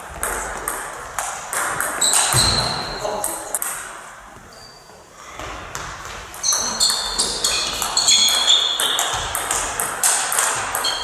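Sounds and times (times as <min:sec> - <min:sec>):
table tennis ball hits: 0:00.1 - 0:03.9, 0:05.7 - 0:11.0.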